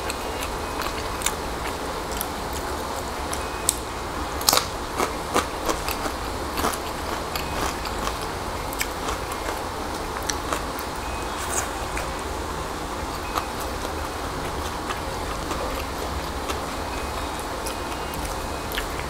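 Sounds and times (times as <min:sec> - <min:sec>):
chewing and crunching: 0:00.0 - 0:19.0
steady low hum: 0:00.0 - 0:19.0.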